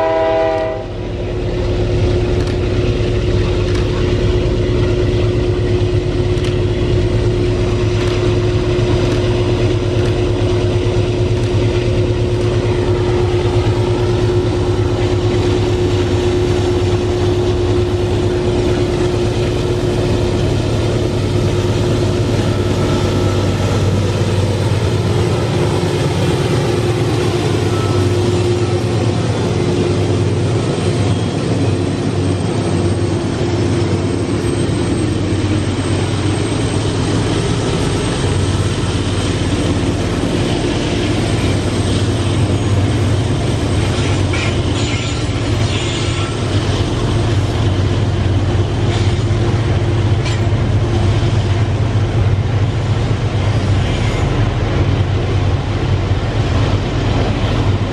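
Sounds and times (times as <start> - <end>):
locomotive engine drone: 0.0 - 57.9.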